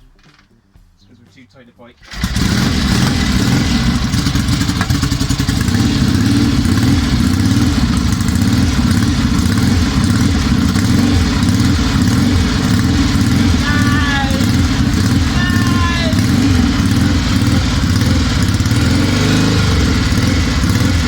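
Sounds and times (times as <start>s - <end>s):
motorcycle engine running: 2.0s - 21.0s.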